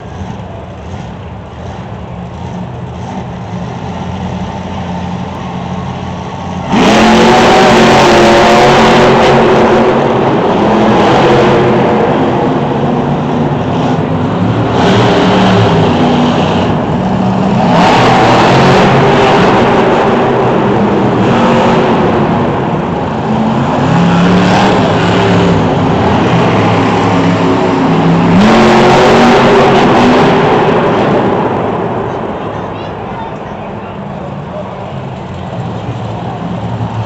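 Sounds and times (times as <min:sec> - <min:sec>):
truck engine revving hard: 0:00.0 - 0:32.6.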